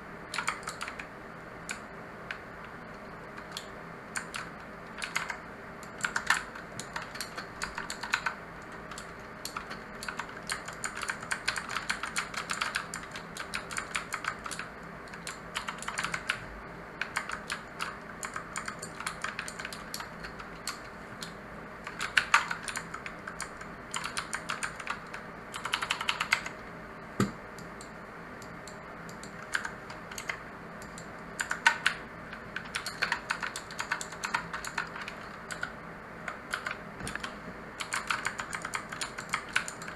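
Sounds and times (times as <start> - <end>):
clicky mechanical keyboard typing: 0.3 - 1.1, 1.7 - 16.4, 17.0 - 26.6, 27.2 - 39.9.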